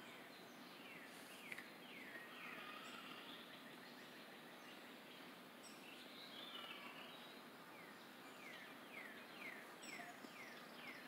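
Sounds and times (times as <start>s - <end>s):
faint outdoor ambience: 0.0s - 11.0s
songbird calling: 0.0s - 11.0s.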